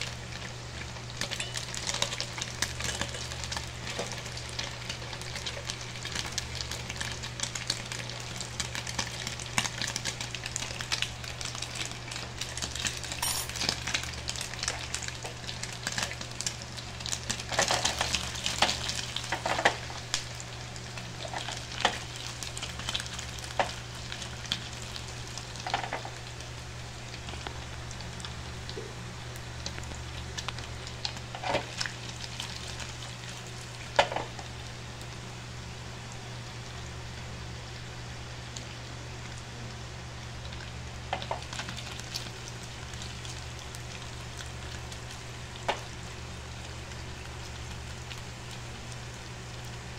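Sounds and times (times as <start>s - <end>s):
sausages sizzling in oil: 0.0s - 49.9s.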